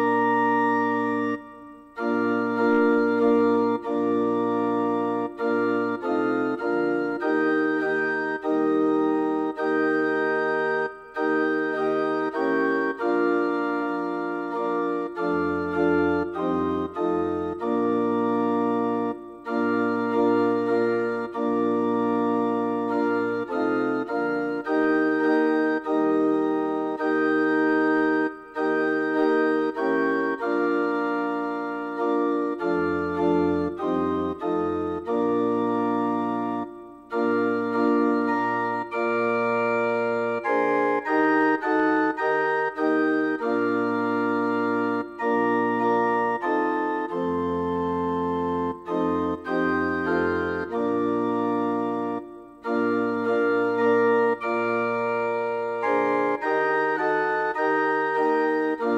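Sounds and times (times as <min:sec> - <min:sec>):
organ playing chords: 0:00.0 - 0:58.9.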